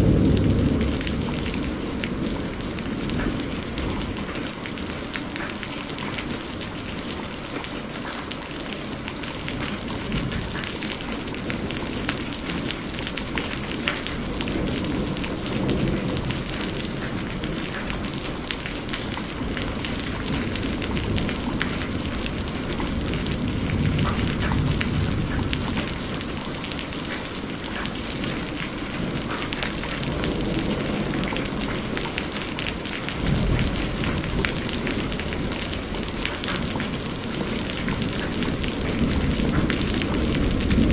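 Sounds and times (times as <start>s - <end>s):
low thunder rumbles: 0.0s - 40.9s
rain falling: 0.0s - 40.9s
raindrop hits: 0.0s - 40.9s.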